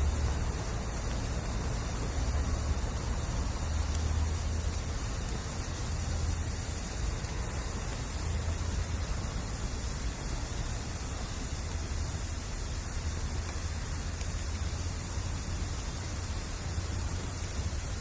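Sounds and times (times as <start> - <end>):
campfire hissing: 0.0 - 18.0.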